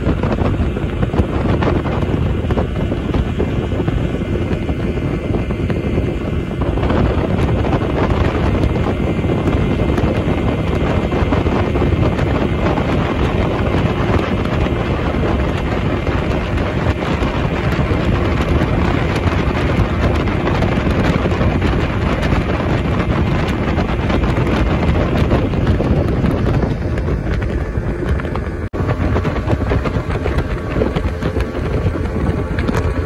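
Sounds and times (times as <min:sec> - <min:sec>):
speedboat engine running: 0:00.0 - 0:33.0
wind noise on microphone: 0:00.0 - 0:33.0.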